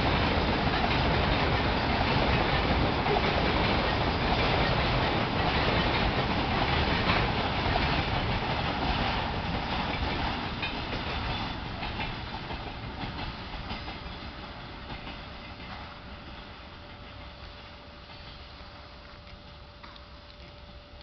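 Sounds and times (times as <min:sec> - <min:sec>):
train wheels clacking on rails: 0:00.0 - 0:20.9.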